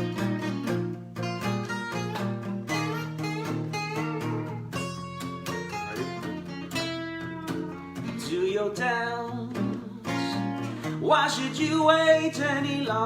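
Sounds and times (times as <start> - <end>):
guitar plucked and strummed: 0.0 - 13.0.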